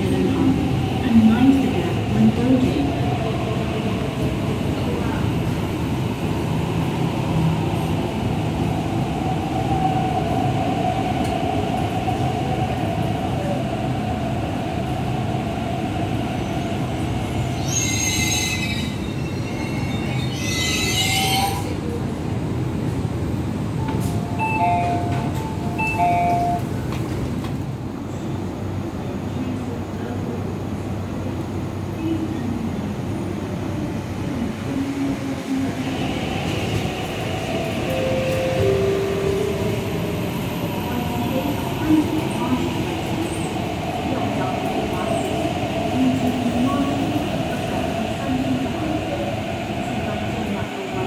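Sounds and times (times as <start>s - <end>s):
train rumble: 0.0s - 17.7s, 18.6s - 51.0s.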